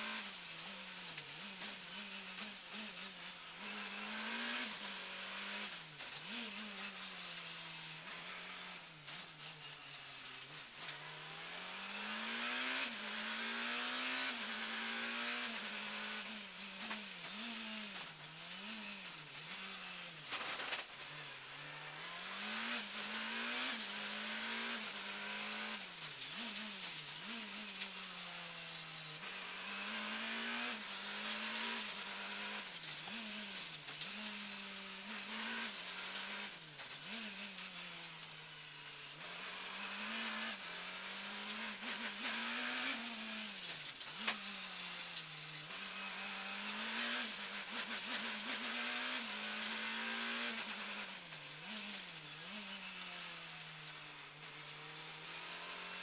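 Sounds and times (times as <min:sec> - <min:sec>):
rally car engine revving: 0:00.0 - 0:56.0
tyre and road noise: 0:00.0 - 0:56.0.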